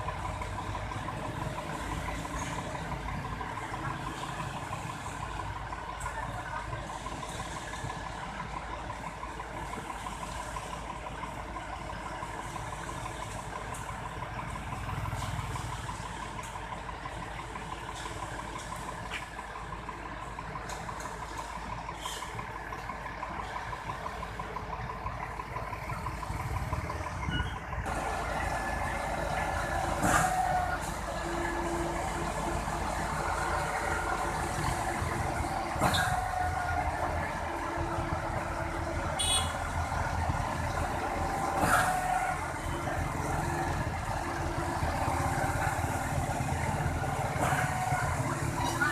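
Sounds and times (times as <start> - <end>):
mixer truck diesel engine running: 0.0 - 48.9.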